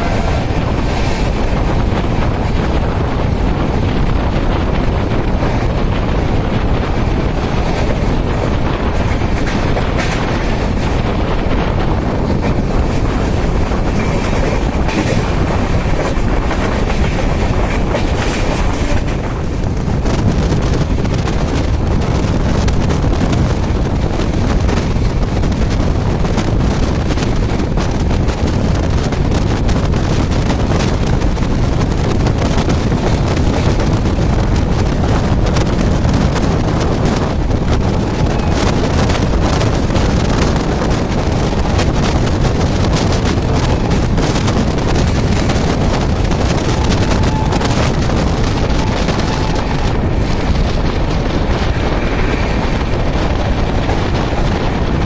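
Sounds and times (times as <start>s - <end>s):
train rumble and wind rush: 0.0s - 55.0s.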